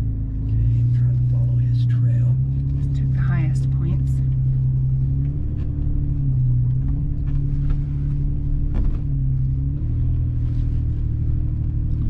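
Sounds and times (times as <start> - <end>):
engine running at low speed: 0.0 - 12.0.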